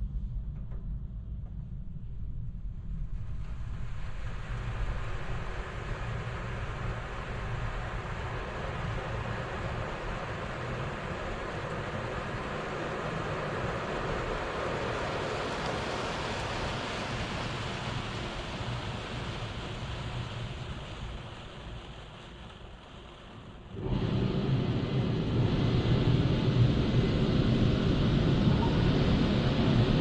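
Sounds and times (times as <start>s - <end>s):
car wash machinery rushing: 4.3s - 30.0s.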